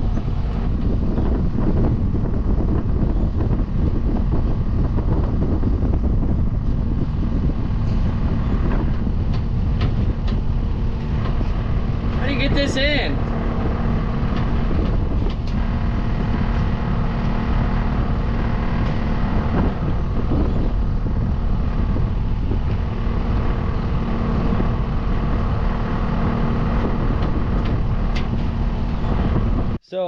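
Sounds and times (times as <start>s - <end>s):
diesel engine running: 0.0s - 29.8s.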